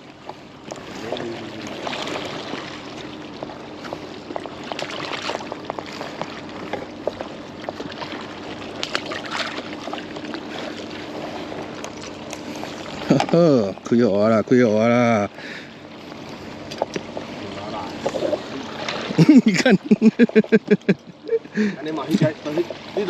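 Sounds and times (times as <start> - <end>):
faint steady hum: 0.0 - 23.0
water sloshing and splashing: 0.0 - 23.0.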